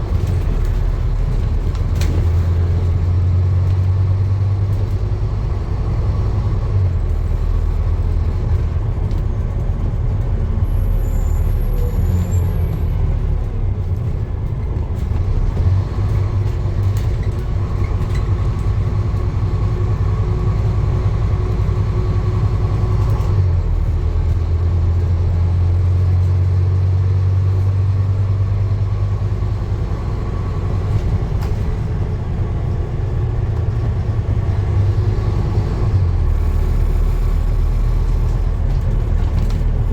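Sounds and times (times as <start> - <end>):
motor vehicle running: 0.0 - 39.9.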